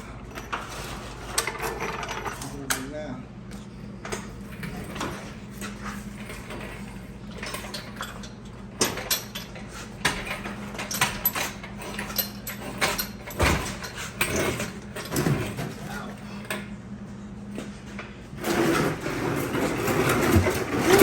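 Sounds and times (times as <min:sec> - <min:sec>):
steady low hum: 0:00.0 - 0:21.0
tools and metal parts clanking: 0:00.3 - 0:03.0, 0:04.0 - 0:16.7, 0:18.4 - 0:21.0.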